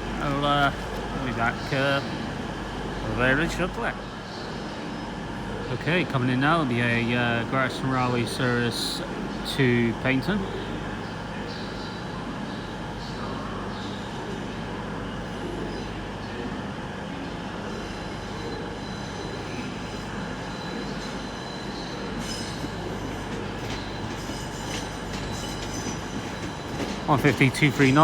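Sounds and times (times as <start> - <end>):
train engine and wheels rumbling: 0.0 - 28.0.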